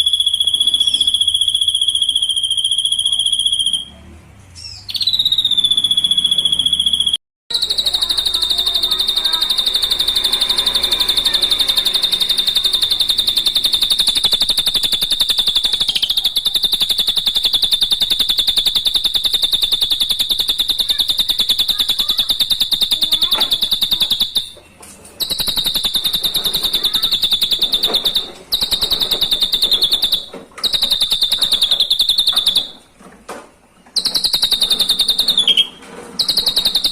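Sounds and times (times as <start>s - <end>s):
bird high fast trill: 0.0s - 4.0s, 4.6s - 32.9s, 34.0s - 36.9s.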